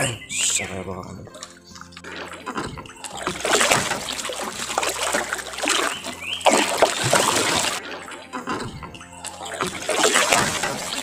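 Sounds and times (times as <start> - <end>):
water splashing against boat hull: 1.3 - 11.0.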